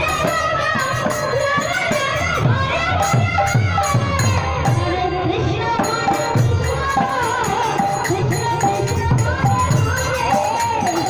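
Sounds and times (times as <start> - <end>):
barrel drums with bending bass: 0.0 - 11.0
person singing devotional melody: 0.0 - 11.0.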